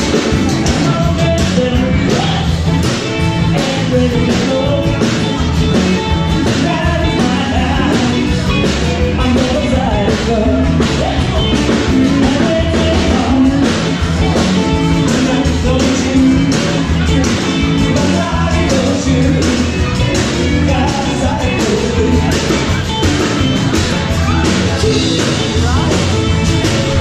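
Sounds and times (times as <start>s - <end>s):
rock and roll song: 0.0s - 27.0s.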